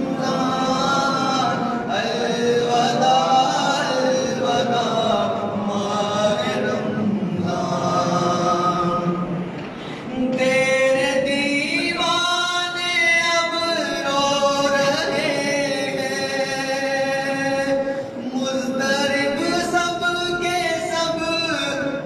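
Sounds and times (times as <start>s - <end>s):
man singing a chant: 0.0s - 9.4s, 10.1s - 22.0s.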